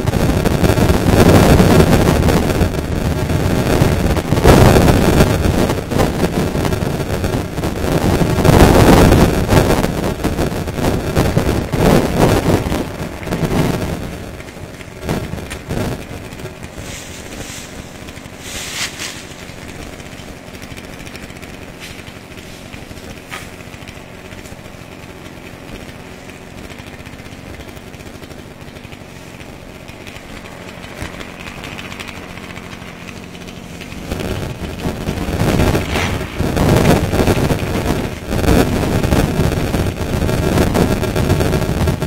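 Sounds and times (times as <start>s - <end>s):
chainsaw idling and revving: 0.0s - 42.0s.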